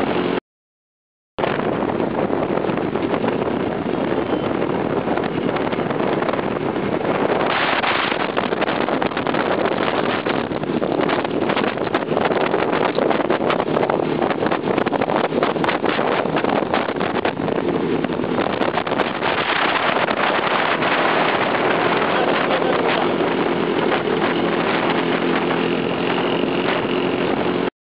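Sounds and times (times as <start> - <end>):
wind buffeting on microphone: 0.0 - 0.4, 1.4 - 27.7
motorcycle engines running: 1.4 - 27.7.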